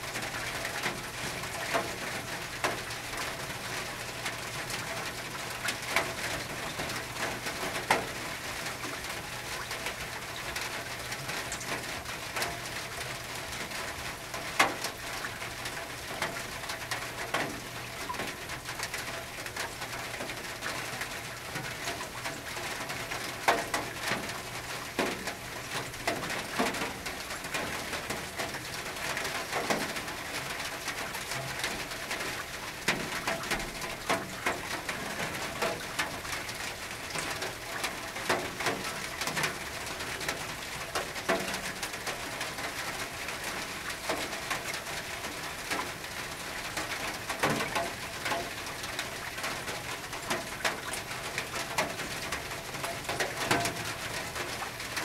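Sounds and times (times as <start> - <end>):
rain on a tin roof: 0.0 - 55.0.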